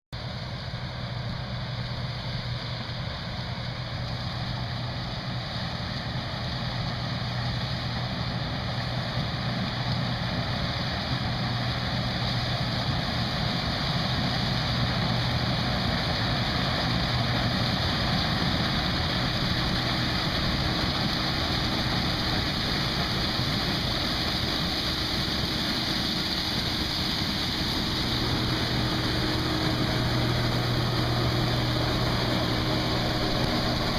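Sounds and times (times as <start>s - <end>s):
combine harvester running: 0.2s - 33.9s.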